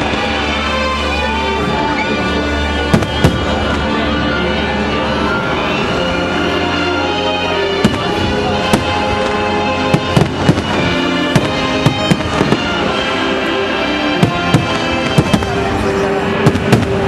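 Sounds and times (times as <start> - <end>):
steady music: 0.0 - 17.0.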